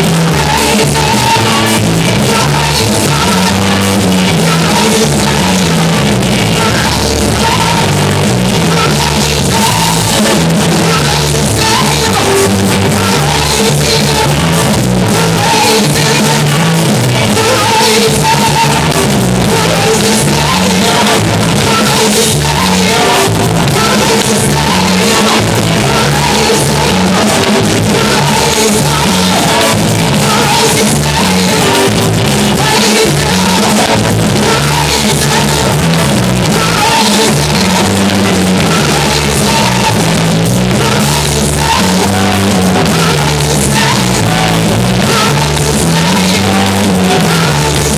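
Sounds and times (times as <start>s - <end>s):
bass line: 0.0s - 47.9s
drum beats: 0.0s - 47.9s
loud band music: 0.0s - 47.9s
person singing: 0.0s - 47.9s.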